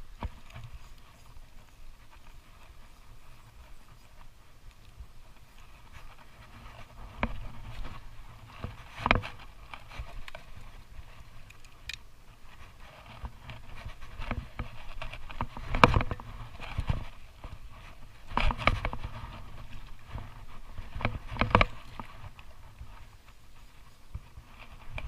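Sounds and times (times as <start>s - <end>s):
rustling: 0.0s - 25.0s.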